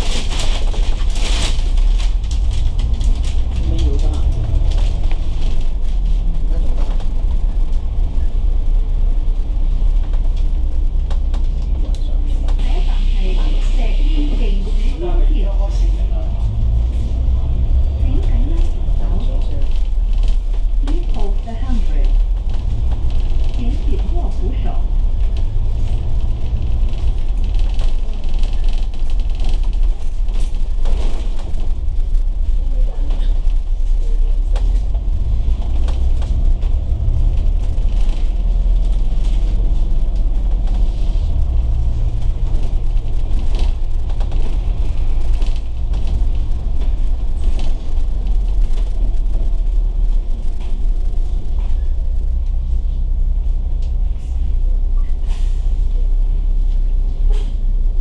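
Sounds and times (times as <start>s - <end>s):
bus diesel engine rumble: 0.0s - 58.0s.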